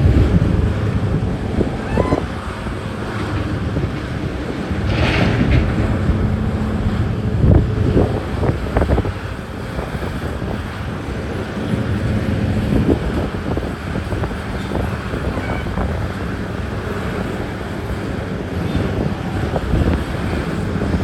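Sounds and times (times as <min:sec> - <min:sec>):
heavy diesel machinery rumble: 0:00.0 - 0:21.0
wind buffeting microphone: 0:00.0 - 0:21.0.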